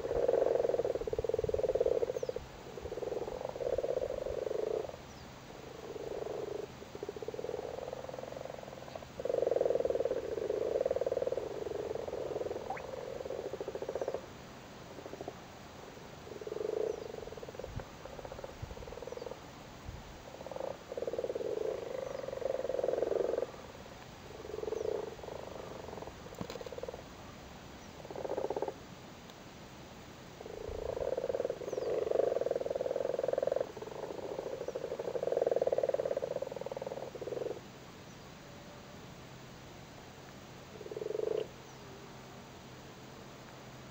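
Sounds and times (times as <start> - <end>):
frogs croaking: 0.0 - 19.6, 20.2 - 27.2, 27.8 - 28.9, 30.3 - 38.3, 40.5 - 42.4.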